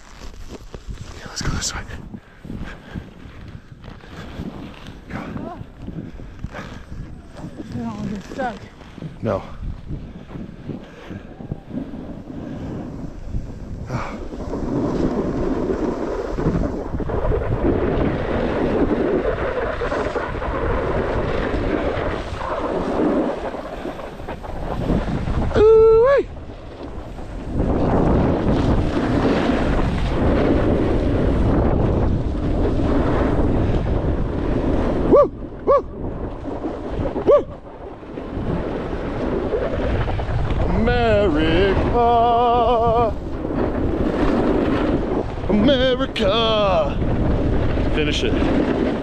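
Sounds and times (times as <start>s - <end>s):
snowboard scraping over snow: 0.0s - 49.0s
wind rumbling on microphone: 0.0s - 49.0s.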